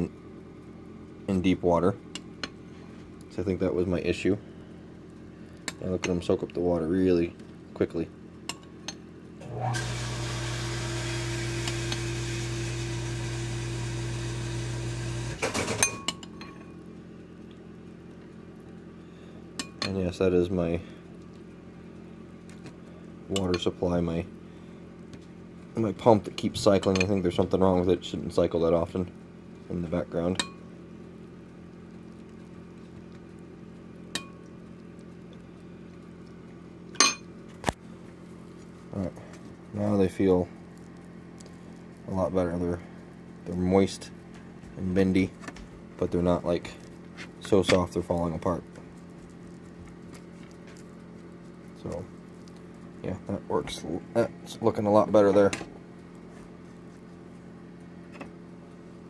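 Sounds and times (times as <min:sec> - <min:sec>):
water pump humming: 0:00.0 - 0:59.0.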